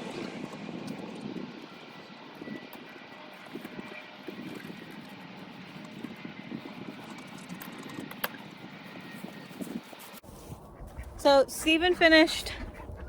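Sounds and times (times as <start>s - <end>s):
faint engine drone: 0.0s - 13.0s.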